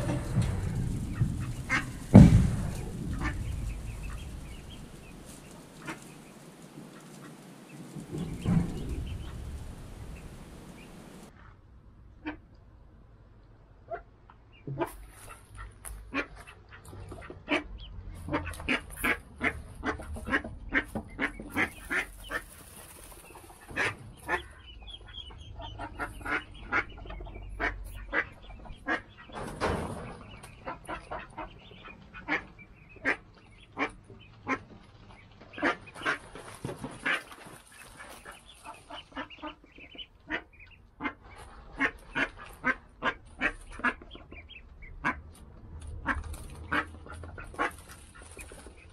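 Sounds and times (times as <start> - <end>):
ducks quacking: 0.0 - 11.3, 13.8 - 48.9.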